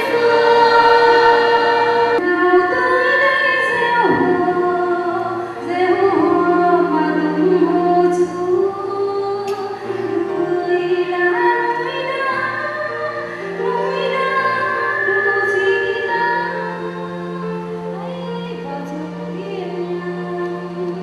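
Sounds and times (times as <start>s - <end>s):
sustained low accompanying notes: 0.0s - 21.0s.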